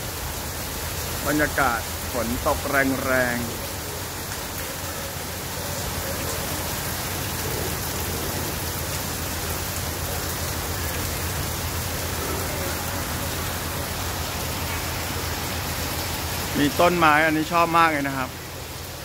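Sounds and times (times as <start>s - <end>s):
heavy rain on wet pavement: 0.0s - 19.0s.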